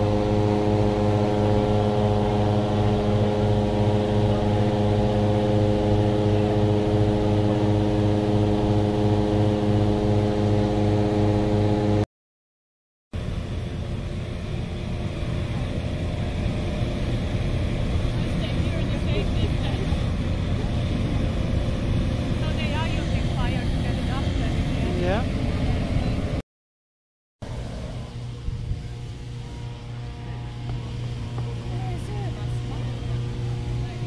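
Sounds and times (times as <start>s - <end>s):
inflator fan running: 0.0s - 12.0s, 13.2s - 26.4s, 27.4s - 34.0s
noisy engine running: 0.0s - 12.1s, 13.2s - 26.4s, 27.4s - 34.0s.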